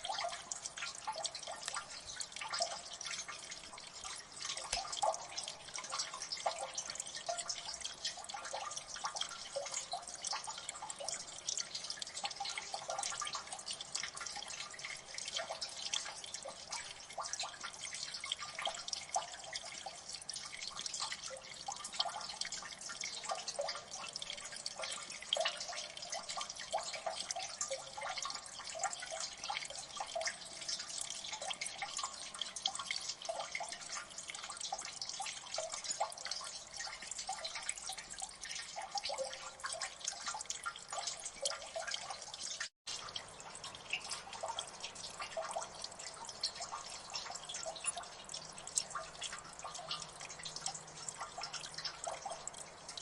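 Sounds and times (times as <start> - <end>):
water dripping: 0.0 - 53.0.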